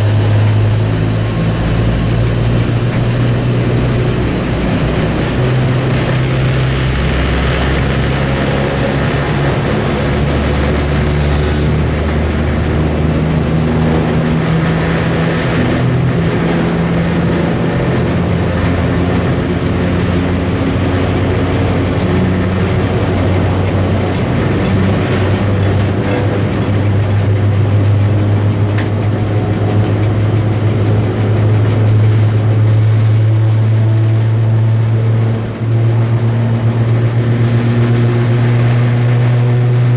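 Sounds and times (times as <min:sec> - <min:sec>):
diesel locomotive engine: 0:00.0 - 0:39.9.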